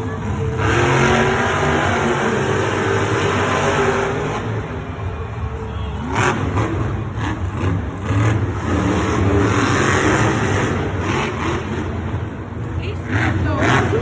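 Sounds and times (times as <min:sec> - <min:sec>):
truck engines revving hard: 0:00.0 - 0:14.0.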